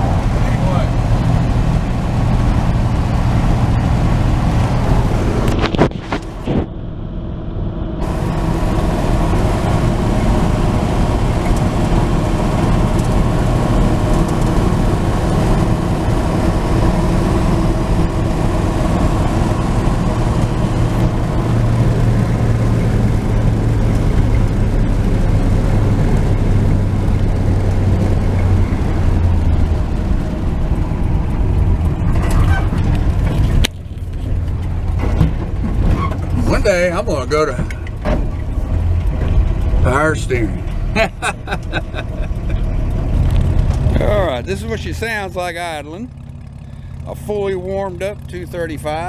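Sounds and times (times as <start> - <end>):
pickup engine running: 0.0 - 49.0
road noise: 0.0 - 49.0.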